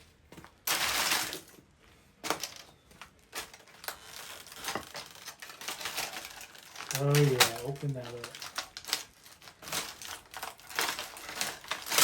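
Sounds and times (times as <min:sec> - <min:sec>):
plastic and metal cracking: 0:00.6 - 0:01.6, 0:02.2 - 0:12.0.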